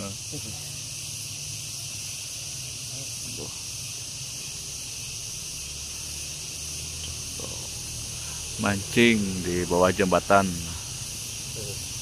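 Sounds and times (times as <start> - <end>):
high-pitched outdoor hiss: 0.0 - 12.0.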